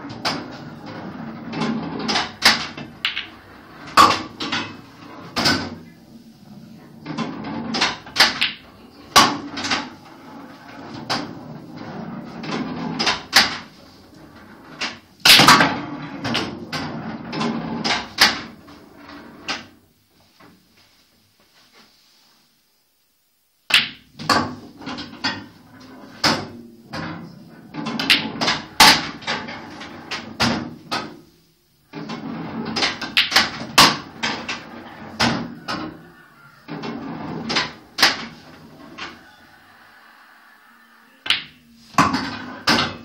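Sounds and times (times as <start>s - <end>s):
pool balls clacking: 0.0s - 20.9s, 23.7s - 39.8s, 41.2s - 43.0s
pool balls rolling: 0.0s - 22.5s, 23.6s - 43.0s.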